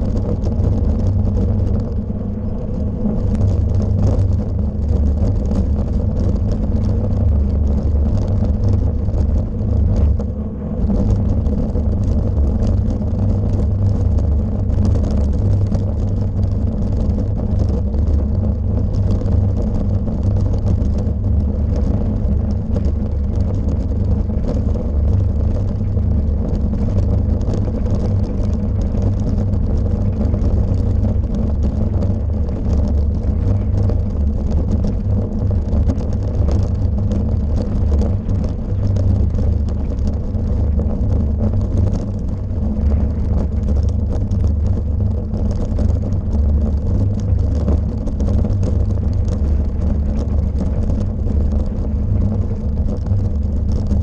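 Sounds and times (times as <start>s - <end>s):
bike rumbling over cobblestones: 0.0s - 54.0s.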